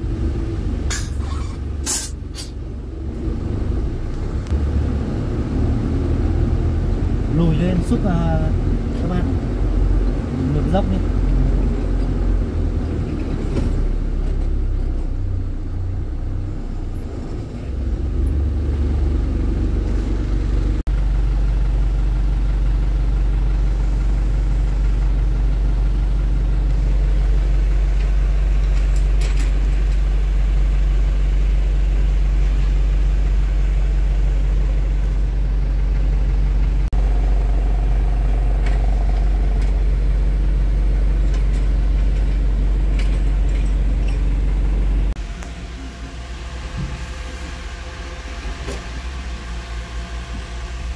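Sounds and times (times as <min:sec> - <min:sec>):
truck engine low drone: 0:00.0 - 0:50.9.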